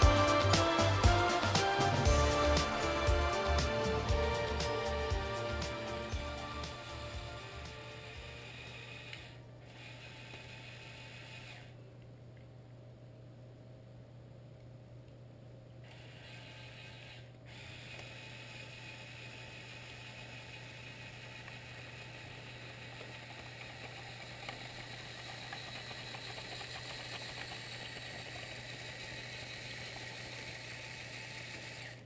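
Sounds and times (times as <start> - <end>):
electric motors and gears whirring: 0.0 - 12.1, 15.8 - 32.0.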